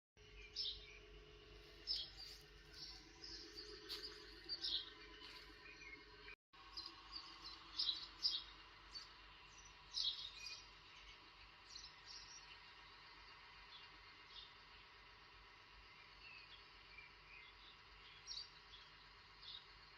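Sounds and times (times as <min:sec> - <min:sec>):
small birds chirping: 0:00.2 - 0:19.9.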